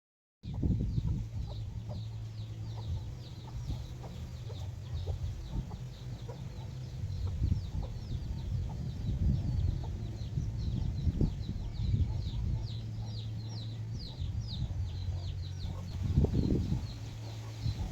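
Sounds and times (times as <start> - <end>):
chicks cheeping: 0.5 - 17.9
low rumble: 0.5 - 17.9
hens clucking: 1.0 - 17.9.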